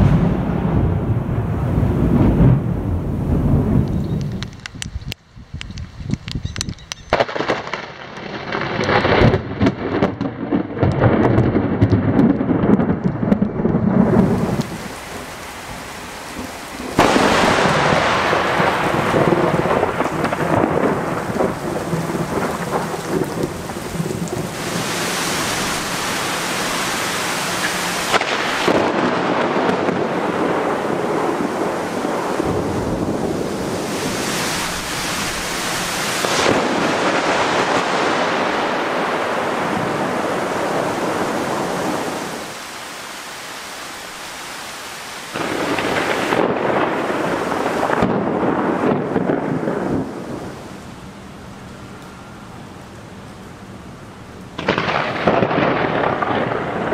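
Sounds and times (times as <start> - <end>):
thunder crackling and rumbling: 0.0 - 42.6, 45.3 - 56.9
heavy rain: 0.0 - 56.9.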